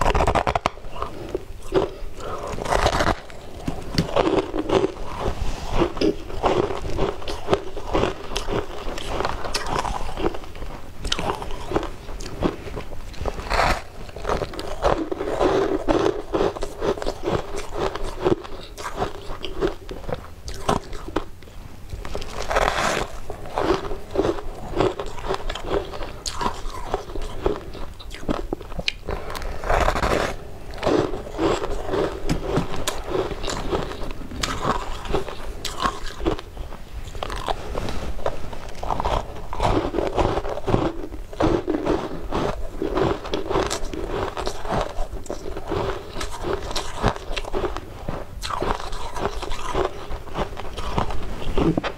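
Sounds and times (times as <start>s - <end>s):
person chewing ice crunching: 0.0s - 51.9s.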